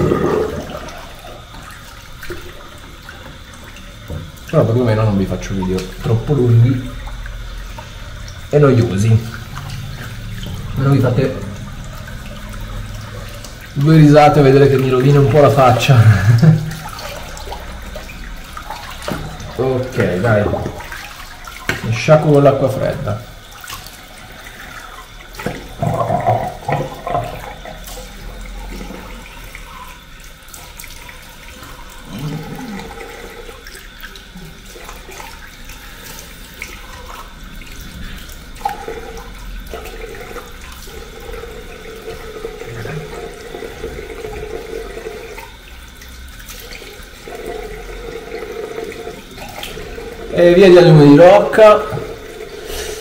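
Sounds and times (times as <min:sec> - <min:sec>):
man splashing water on face: 0:00.0 - 0:53.0
tap water running into sink: 0:00.0 - 0:53.0.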